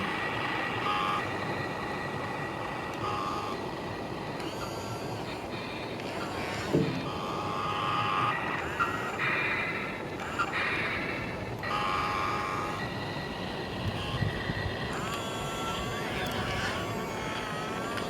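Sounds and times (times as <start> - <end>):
excavator machine whine: 0.0 - 18.0.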